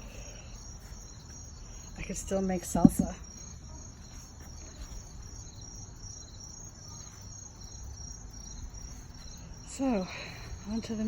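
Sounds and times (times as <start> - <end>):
crickets chirping: 0.0 - 11.0
faint low outdoor rumble: 0.0 - 11.0.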